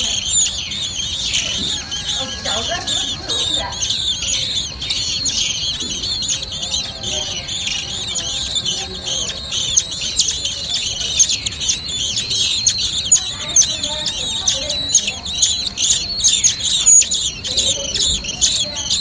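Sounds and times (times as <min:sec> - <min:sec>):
nestlings chirping: 0:00.0 - 0:19.0.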